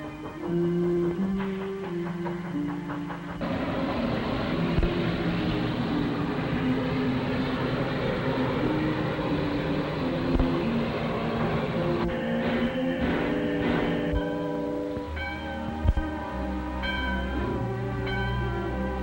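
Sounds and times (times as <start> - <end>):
steam train rumble and clatter: 0.0 - 19.0.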